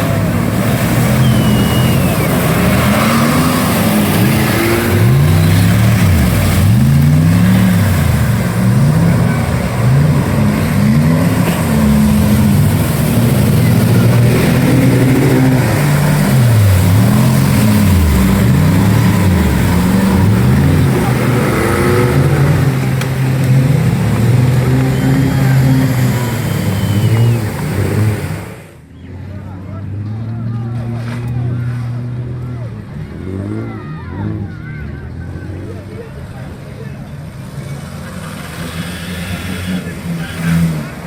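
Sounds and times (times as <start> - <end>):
off-road engine revving: 0.0 - 41.0.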